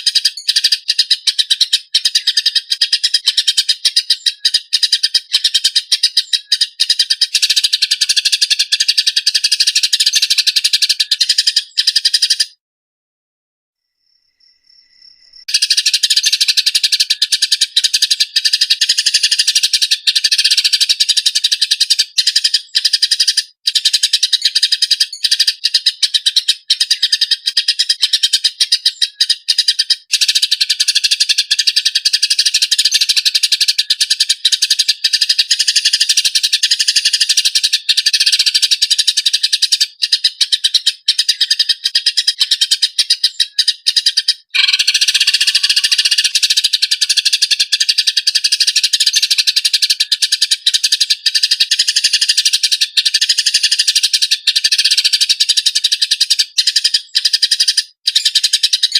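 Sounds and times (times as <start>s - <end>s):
sparrows chattering: 0.0s - 12.6s, 15.2s - 58.9s.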